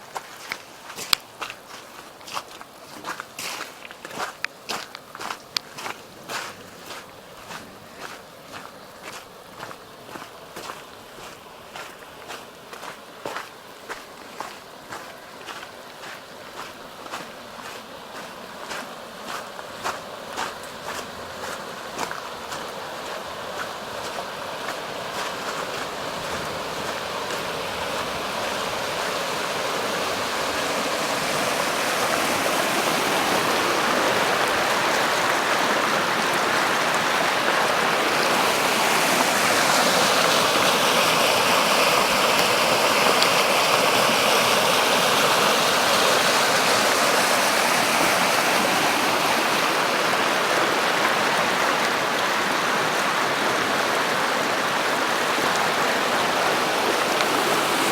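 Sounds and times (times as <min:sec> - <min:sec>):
floodwater rushing: 0:00.0 - 0:57.9.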